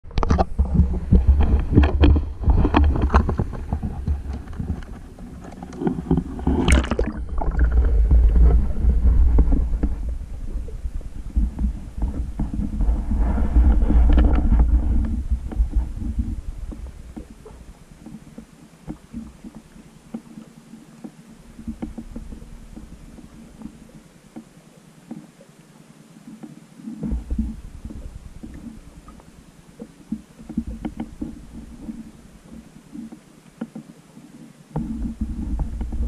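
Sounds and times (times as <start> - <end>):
underwater low rumble: 0.0 - 36.0.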